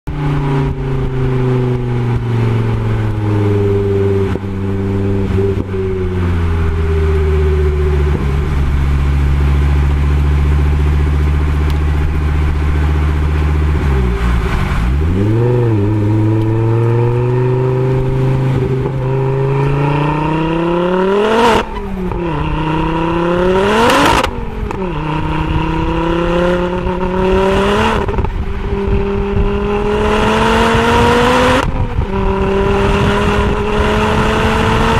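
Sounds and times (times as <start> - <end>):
car engine exhaust revving: 0.1 - 34.9.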